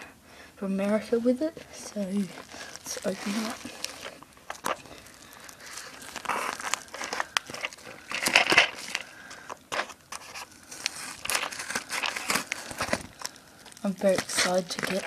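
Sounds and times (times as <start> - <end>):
padded mailer crinkling and tearing: 1.6 - 15.0.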